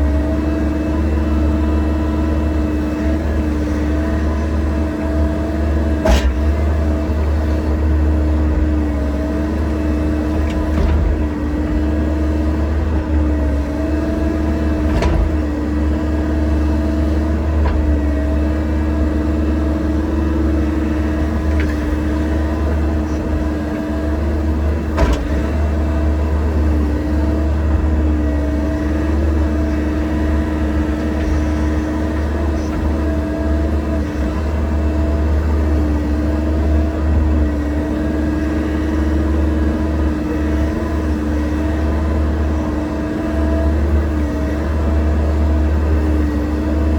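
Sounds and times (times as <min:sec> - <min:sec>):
excavator engine drone: 0:00.0 - 0:46.9.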